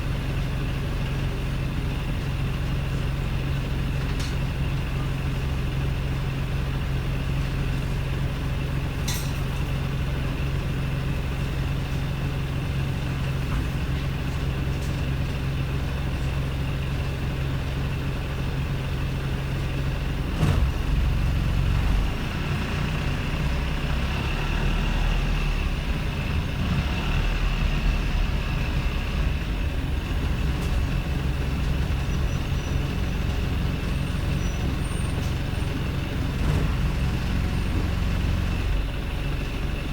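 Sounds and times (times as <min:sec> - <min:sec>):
bus diesel engine idling: 0:00.0 - 0:39.9.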